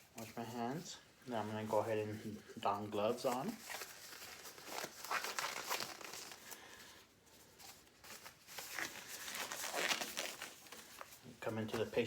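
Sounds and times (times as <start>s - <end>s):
gloves crinkling: 0.0s - 12.0s.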